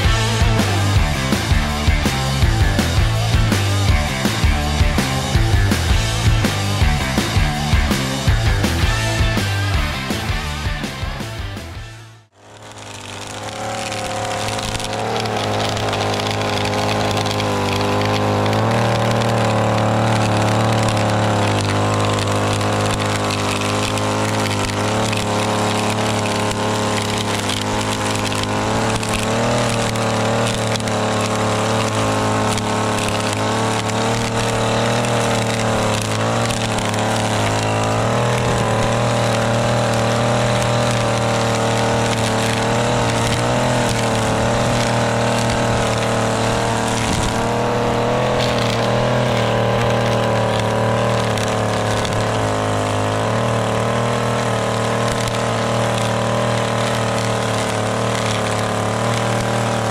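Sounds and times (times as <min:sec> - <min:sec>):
blade cutting soil and turf: 0:00.0 - 0:59.9
small engine running: 0:00.0 - 0:59.9.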